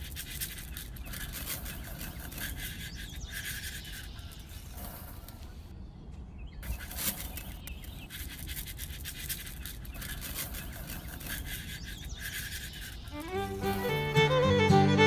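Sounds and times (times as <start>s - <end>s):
seeds sprinkled onto dry sand: 0.0s - 5.7s, 6.6s - 14.2s
birds calling: 0.0s - 15.0s.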